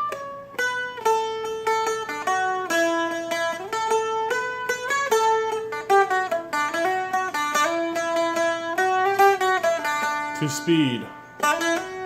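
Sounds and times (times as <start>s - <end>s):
plucked dulcimer melody: 0.0s - 12.0s.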